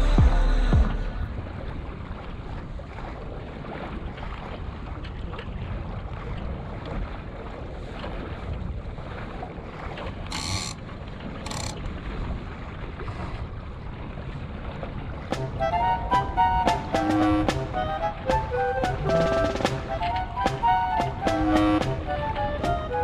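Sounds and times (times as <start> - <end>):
water washing along a hull: 0.0 - 23.0.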